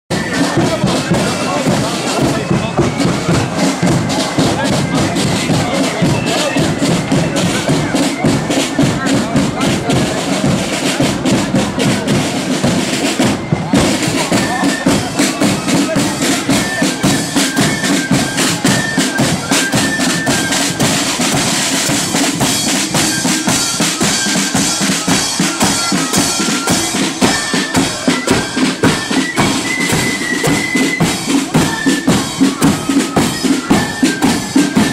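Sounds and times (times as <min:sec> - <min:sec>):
shrill flutes playing melody: 0:00.1 - 0:34.9
side drums and bass drum beat: 0:00.1 - 0:34.9.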